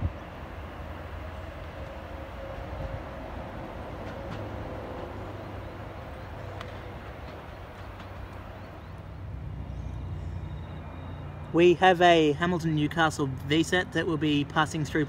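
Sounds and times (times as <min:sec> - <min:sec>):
faint train whine: 0:00.0 - 0:15.0.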